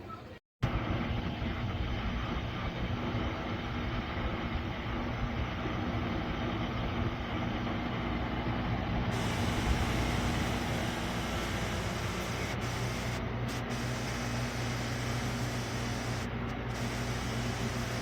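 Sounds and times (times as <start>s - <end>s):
air conditioner fan rushing: 0.7s - 18.0s.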